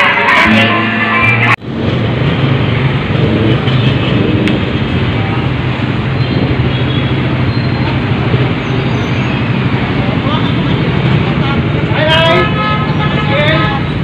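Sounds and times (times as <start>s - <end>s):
street traffic: 0.0s - 14.0s
vehicle engine humming: 0.1s - 14.0s.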